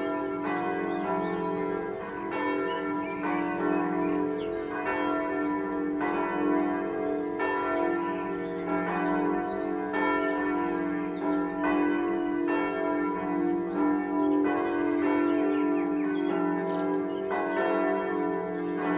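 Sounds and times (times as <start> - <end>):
church bells ringing in a peal: 0.0 - 18.9.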